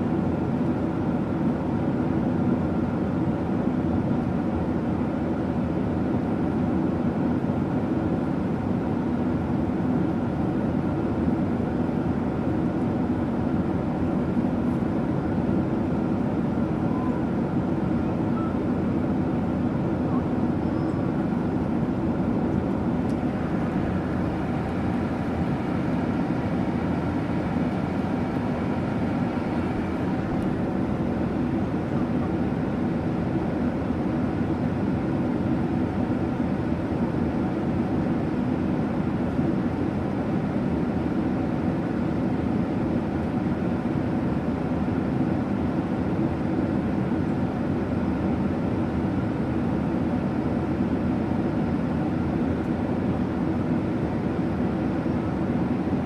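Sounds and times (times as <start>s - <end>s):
airliner cabin drone: 0.0s - 56.0s.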